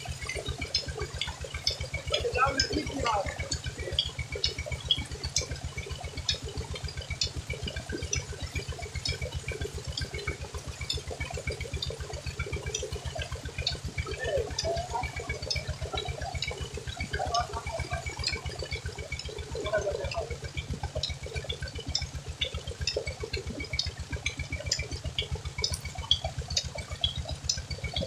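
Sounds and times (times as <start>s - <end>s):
fast low pulse: 0.0s - 28.0s.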